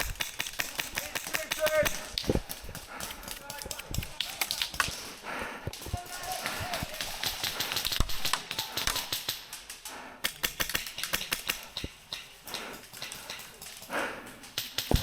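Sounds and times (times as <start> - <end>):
airsoft guns firing: 0.0 - 5.2, 5.8 - 15.0.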